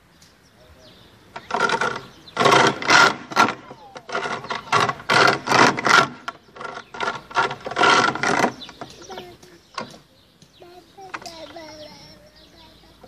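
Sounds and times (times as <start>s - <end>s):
swing chains creaking: 1.4s - 12.2s.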